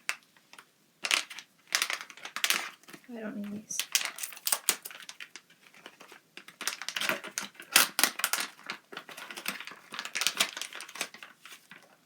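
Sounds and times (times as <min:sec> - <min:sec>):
packaging crackling and clicking: 0:00.1 - 0:03.0, 0:03.7 - 0:12.0.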